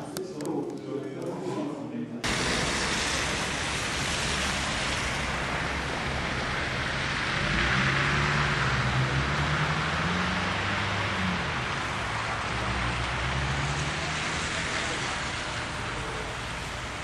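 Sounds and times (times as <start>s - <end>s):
rushing street traffic: 2.2s - 17.0s
vehicle engine humming: 2.2s - 17.0s.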